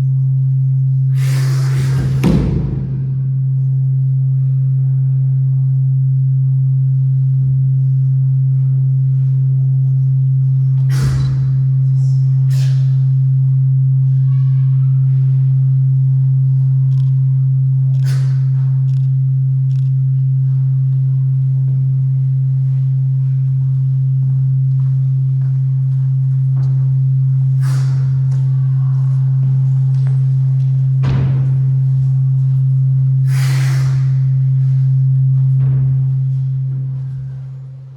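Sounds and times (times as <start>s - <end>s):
low electronic drone: 0.0s - 14.2s, 15.0s - 37.9s.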